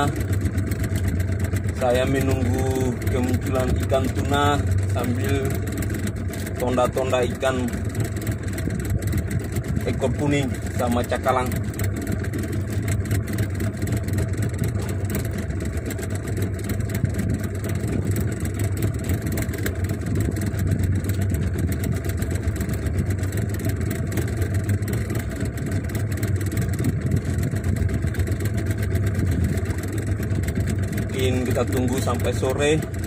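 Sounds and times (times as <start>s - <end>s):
outboard motor humming: 0.0s - 33.0s.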